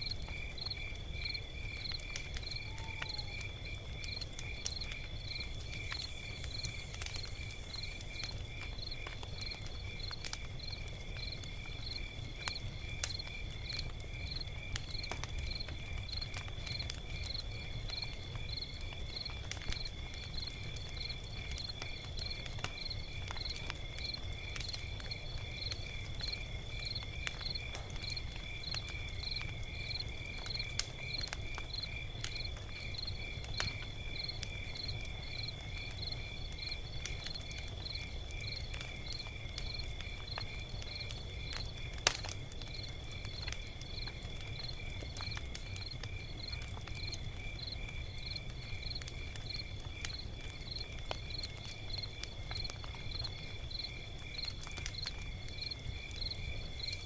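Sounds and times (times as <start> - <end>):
cricket chirping: 0.0 - 57.0
log fire crackling: 0.0 - 57.0
sharp pops from fire: 0.0 - 57.0.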